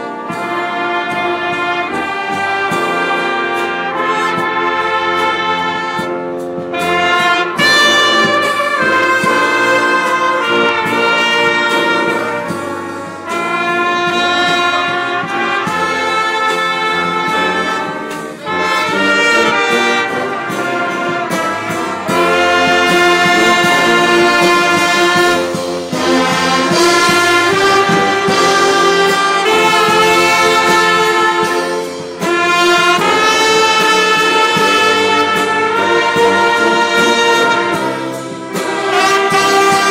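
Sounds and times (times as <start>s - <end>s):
brass-led orchestra playing: 0.0s - 39.9s.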